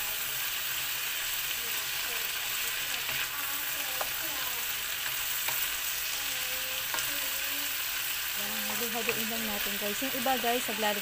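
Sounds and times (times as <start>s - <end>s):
vegetables sizzling in wok: 0.0s - 11.0s.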